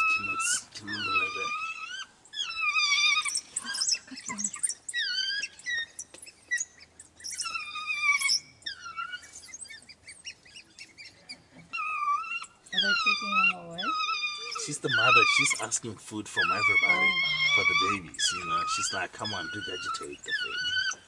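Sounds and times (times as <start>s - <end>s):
wild dogs twittering chirps: 0.0s - 21.0s
wild dogs wavering whines: 0.0s - 21.0s.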